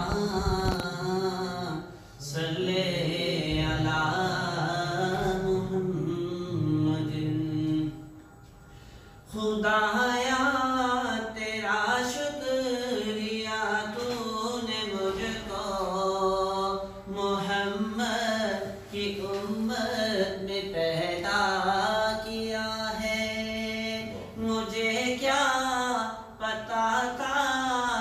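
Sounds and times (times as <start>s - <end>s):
man chanting: 0.0s - 8.2s, 9.3s - 28.0s.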